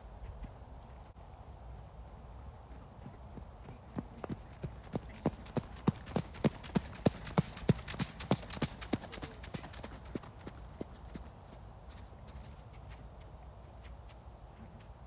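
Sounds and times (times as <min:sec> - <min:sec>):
horse hoofbeats on sand: 0:02.6 - 0:15.0.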